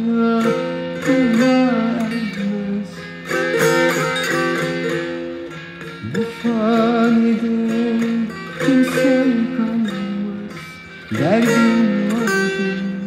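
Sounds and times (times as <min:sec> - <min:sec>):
man singing wordless melody: 0:00.0 - 0:03.5, 0:06.0 - 0:13.0
plucked string instrument drone: 0:00.0 - 0:13.0.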